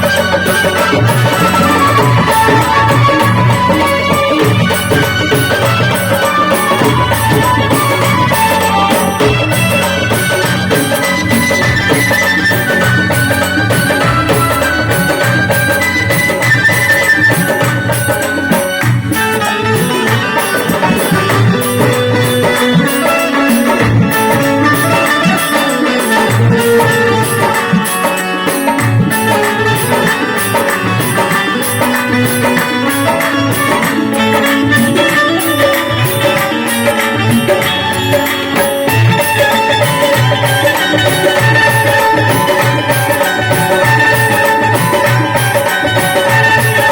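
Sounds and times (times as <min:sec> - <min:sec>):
folk music with fast percussion: 0:00.0 - 0:46.9.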